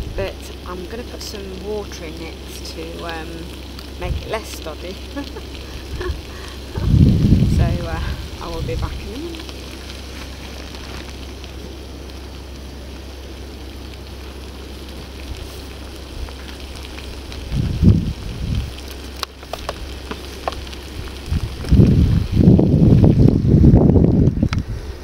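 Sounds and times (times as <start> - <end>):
curry sizzling in frying pan: 0.0 - 23.6
camping stove burning: 0.0 - 25.0
low rumbles: 0.0 - 25.0.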